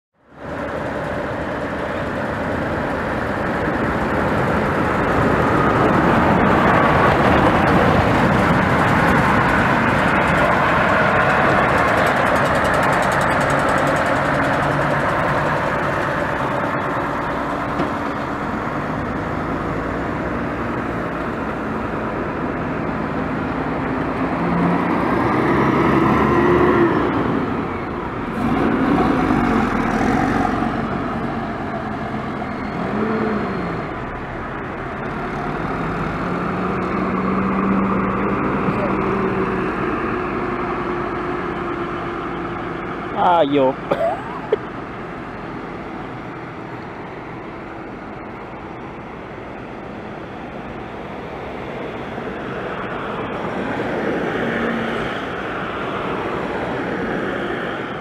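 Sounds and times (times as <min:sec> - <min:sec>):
tyres on road: 0:00.1 - 0:58.0
truck passing: 0:00.2 - 0:58.0
coach engine passing: 0:00.4 - 0:58.0.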